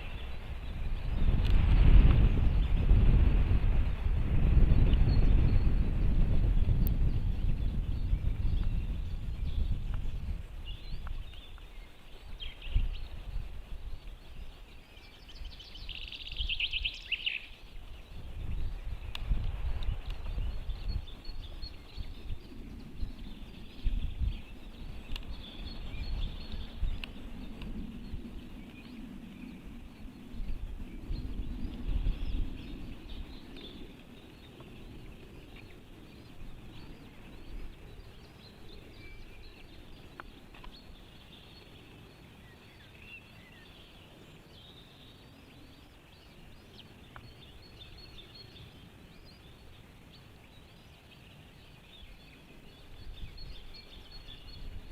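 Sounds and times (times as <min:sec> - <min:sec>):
songbirds chirping and singing: 0:00.0 - 0:54.9
wind on microphone: 0:00.0 - 0:54.9.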